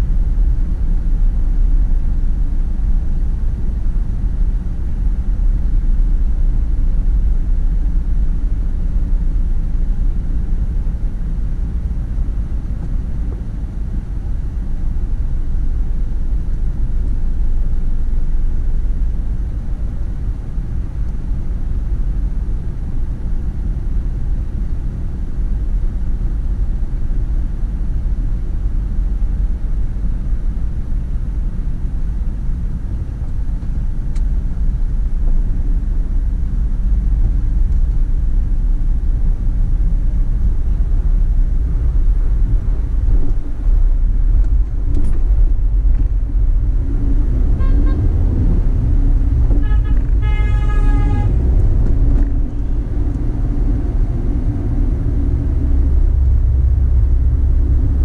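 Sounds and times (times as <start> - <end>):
car engine rumble: 0.0 - 58.0
road noise: 0.0 - 58.0.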